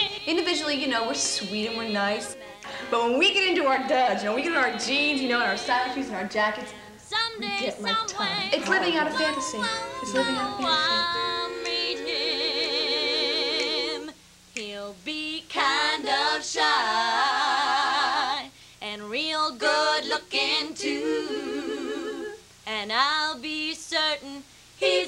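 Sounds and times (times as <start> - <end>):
women singing a cappella harmony: 0.0 - 25.0.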